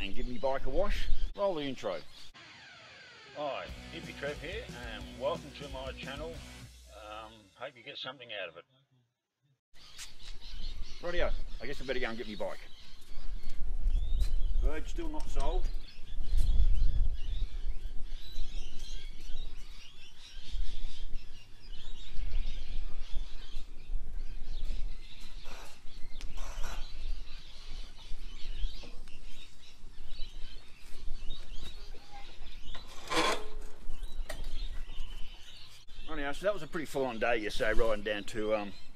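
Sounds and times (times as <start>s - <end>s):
birds chirping and calling: 0.0s - 7.4s, 9.8s - 38.9s.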